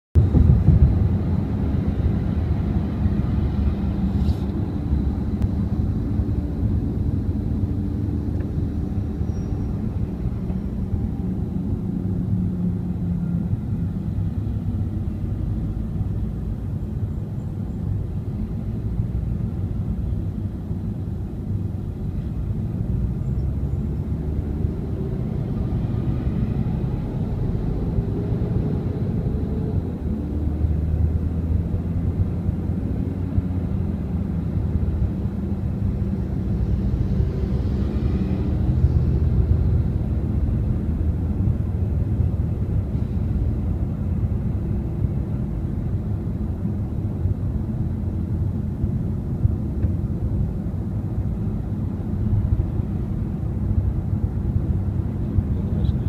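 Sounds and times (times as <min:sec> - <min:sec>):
car interior road rumble: 0:00.2 - 0:56.0.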